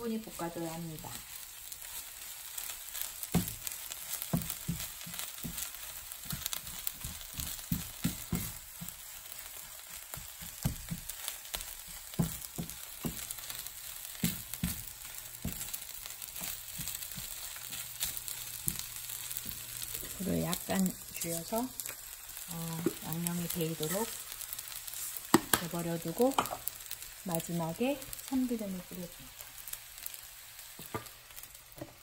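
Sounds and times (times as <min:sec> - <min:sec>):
rice sizzling in a frying pan: 0:00.0 - 0:32.0.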